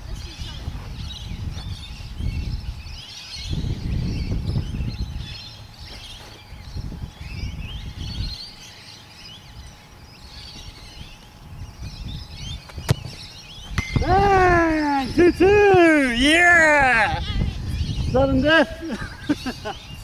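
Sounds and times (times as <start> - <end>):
wind buffeting microphone: 0.0 - 8.7, 9.4 - 20.0
birds chirping: 0.0 - 20.0.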